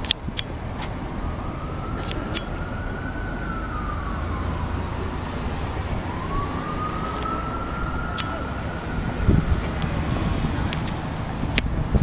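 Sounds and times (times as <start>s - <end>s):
low street noise: 0.0s - 12.0s
emergency vehicle siren wailing: 0.6s - 11.9s.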